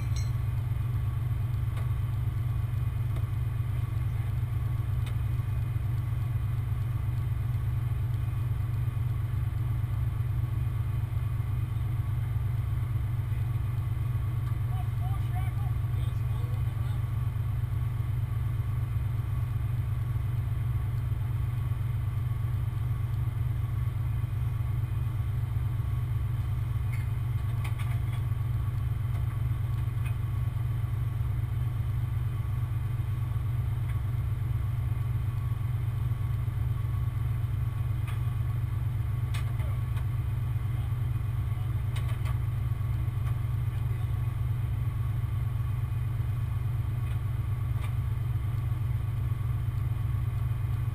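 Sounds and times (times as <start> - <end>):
large truck engine idling: 0.0 - 50.9.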